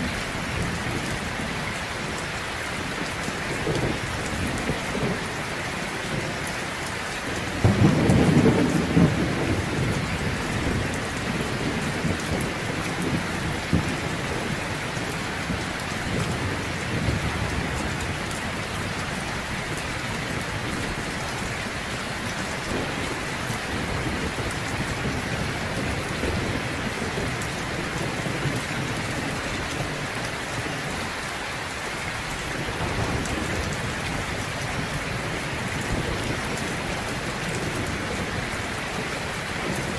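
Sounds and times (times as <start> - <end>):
heavy rain falling: 0.0 - 39.9
low rumble of thunder: 2.8 - 31.2, 31.9 - 39.9.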